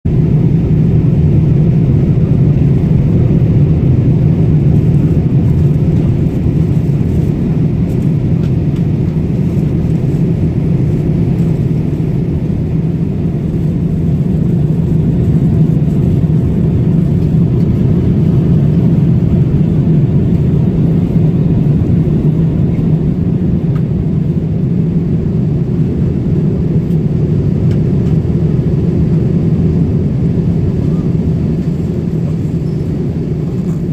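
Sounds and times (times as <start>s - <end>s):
airliner cabin drone: 0.1s - 33.9s.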